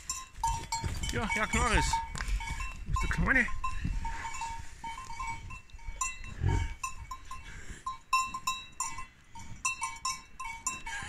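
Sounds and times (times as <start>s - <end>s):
neck bell clanging: 0.0s - 11.0s.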